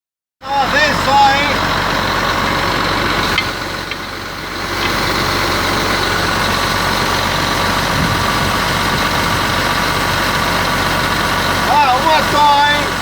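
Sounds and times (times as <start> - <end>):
truck engine idling: 0.4 - 13.0.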